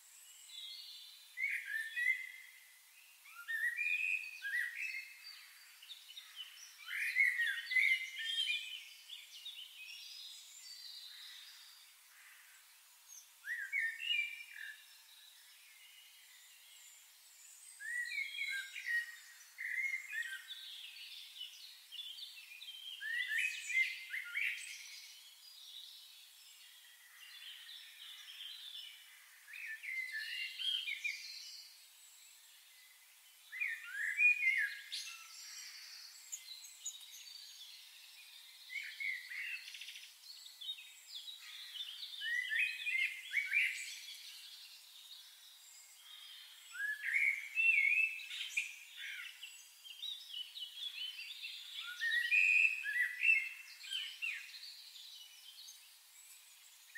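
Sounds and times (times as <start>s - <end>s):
faint hiss: 0.0s - 56.9s
songbirds chirping and trilling: 0.0s - 56.9s.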